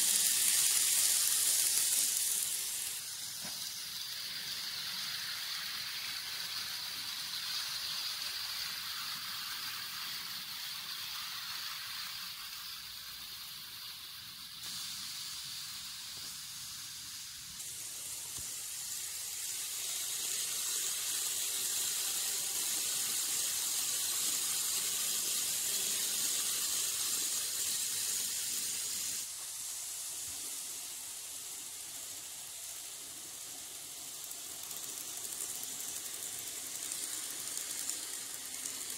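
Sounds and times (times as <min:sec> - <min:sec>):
model train whirring on track: 0:00.0 - 0:38.9.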